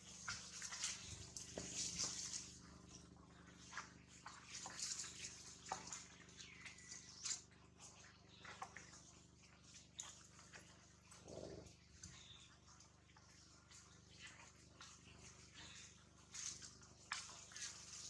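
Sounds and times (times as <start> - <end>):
faint clicks and rustles: 0.0 - 18.0.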